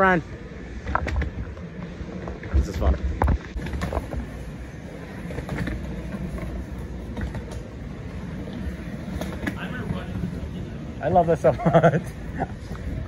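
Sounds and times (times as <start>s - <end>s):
wheels rolling on concrete floor: 0.0s - 13.0s.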